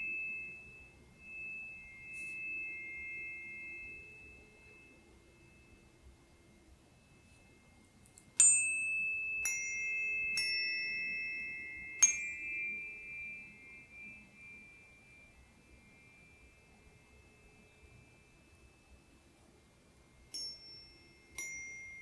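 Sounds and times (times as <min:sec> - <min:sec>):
tuning forks ringing tone: 0:00.0 - 0:22.0.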